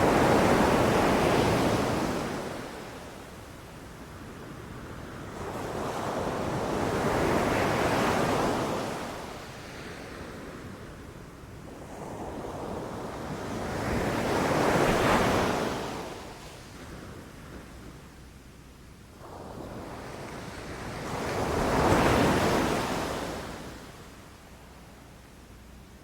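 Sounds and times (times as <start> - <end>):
ocean waves washing ashore: 0.0 - 18.0, 19.2 - 25.2.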